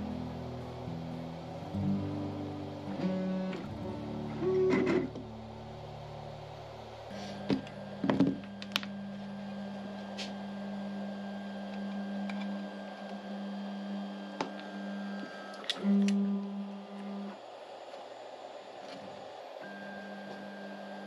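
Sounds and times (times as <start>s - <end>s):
stepper motor humming: 0.0s - 21.0s.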